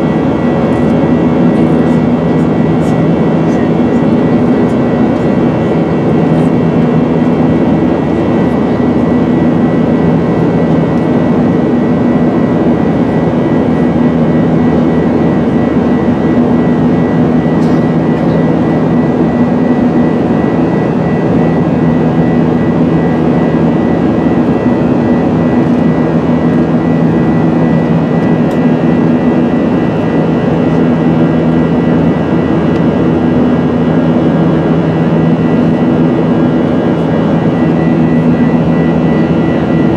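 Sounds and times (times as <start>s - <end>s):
jet engine cabin rush: 0.0s - 39.9s.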